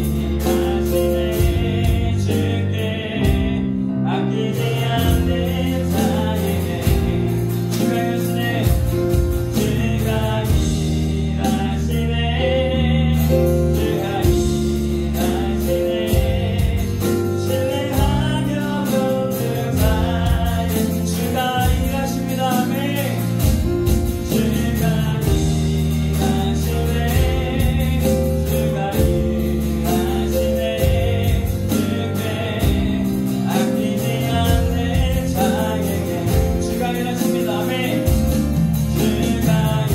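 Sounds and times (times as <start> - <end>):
person singing: 0.0 - 39.9
worship band playing: 0.0 - 39.9.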